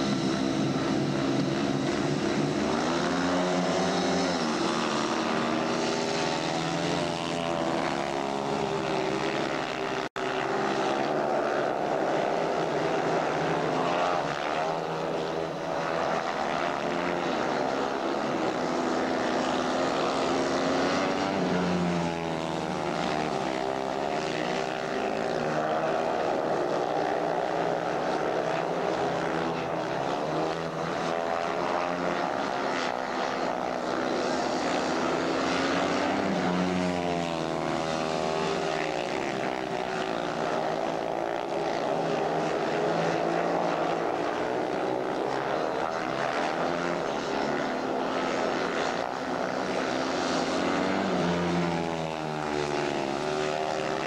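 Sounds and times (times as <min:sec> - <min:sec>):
motorcycles racing at high revs: 0:00.0 - 0:54.0.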